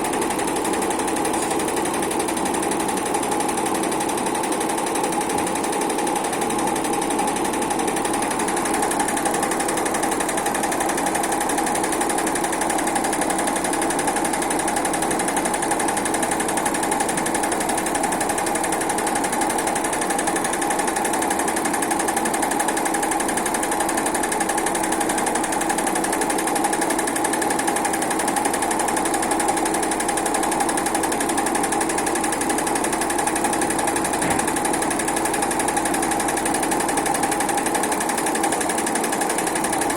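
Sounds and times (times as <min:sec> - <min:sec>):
sewing machine running: 0:00.0 - 0:39.9.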